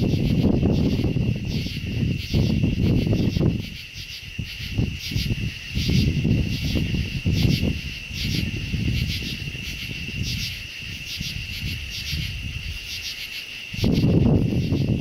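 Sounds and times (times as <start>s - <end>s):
crickets trilling: 0.0s - 15.0s
insects chirping: 0.0s - 15.0s.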